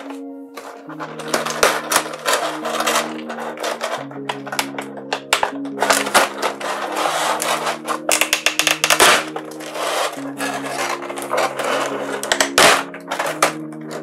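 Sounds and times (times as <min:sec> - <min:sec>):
plastic packaging crinkling: 0:00.0 - 0:14.0
soft background music: 0:00.0 - 0:14.0.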